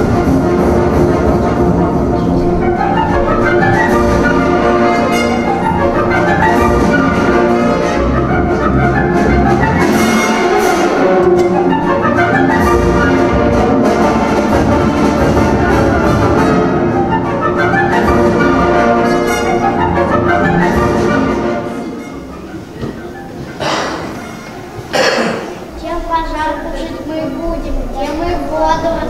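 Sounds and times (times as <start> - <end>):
orchestral music with brass: 0.0 - 25.8.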